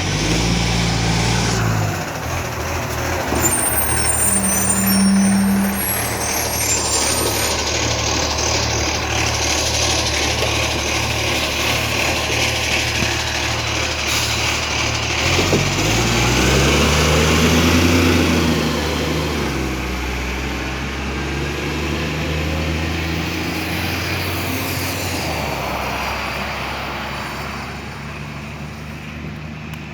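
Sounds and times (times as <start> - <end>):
garbage truck diesel engine: 0.0 - 29.9.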